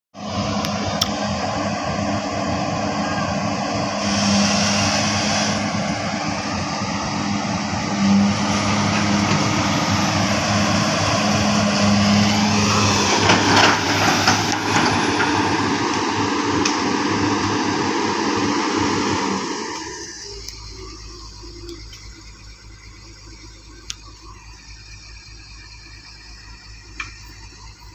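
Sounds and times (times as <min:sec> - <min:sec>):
excavator diesel engine running: 0:00.1 - 0:27.9.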